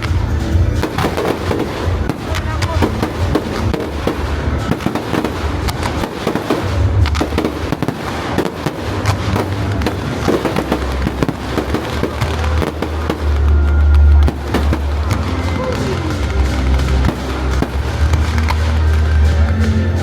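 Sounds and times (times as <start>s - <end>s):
fireworks deep booms: 0.0s - 19.9s
fireworks crackling and popping: 0.0s - 20.0s.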